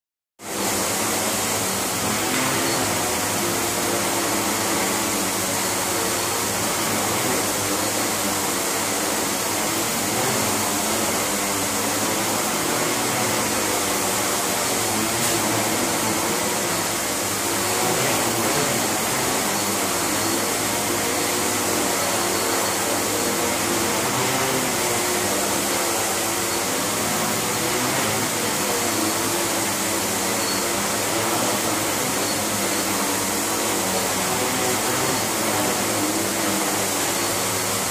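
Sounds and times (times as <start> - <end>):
drone propellers whirring: 0.7 - 37.8.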